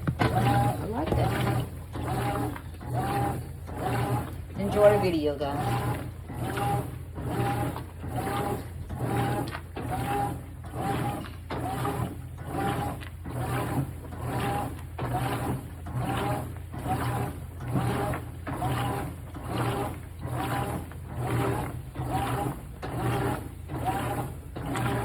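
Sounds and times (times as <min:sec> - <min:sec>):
washing machine agitating: 0:00.0 - 0:25.0.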